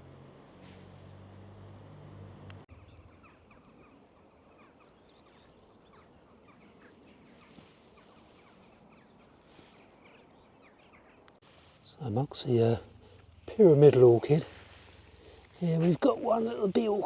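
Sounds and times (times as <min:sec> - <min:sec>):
birds twittering: 0:00.0 - 0:17.0.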